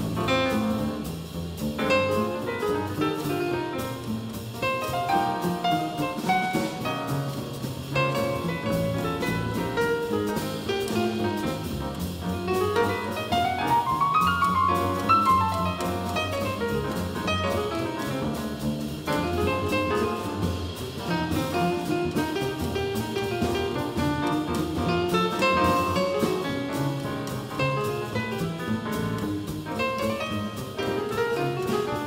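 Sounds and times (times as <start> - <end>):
double bass: 0.0 - 32.0
drum kit cymbals: 0.0 - 32.0
grand piano: 0.0 - 32.0.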